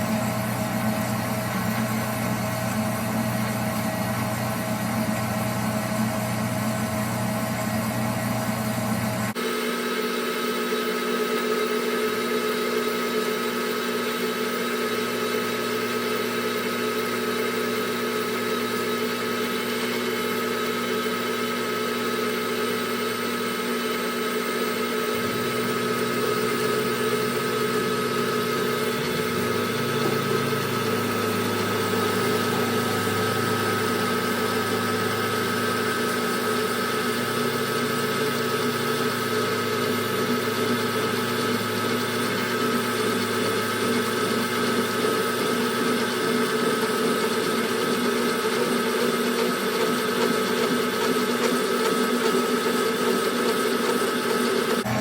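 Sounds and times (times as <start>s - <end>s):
metal lathe running: 0.0s - 55.0s.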